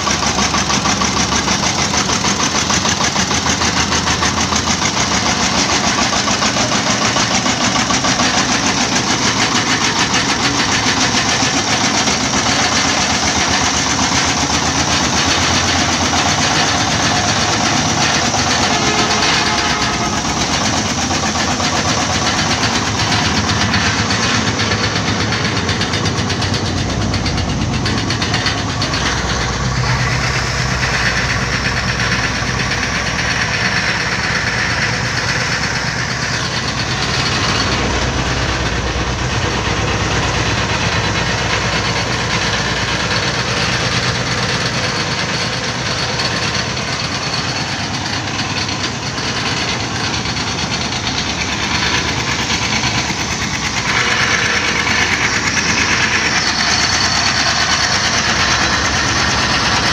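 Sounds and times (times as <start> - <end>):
diesel engine running loudly: 0.0 - 59.9.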